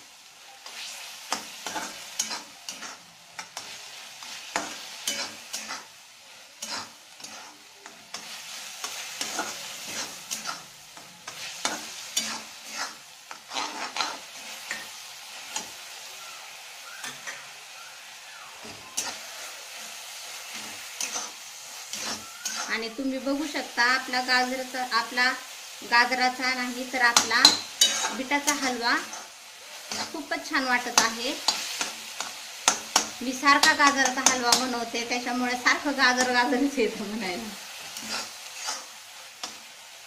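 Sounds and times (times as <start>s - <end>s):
food sizzling in a pan: 0.0s - 40.0s
metal spatula scraping a pan: 0.6s - 16.1s, 18.6s - 23.6s, 26.9s - 37.2s, 37.8s - 39.6s.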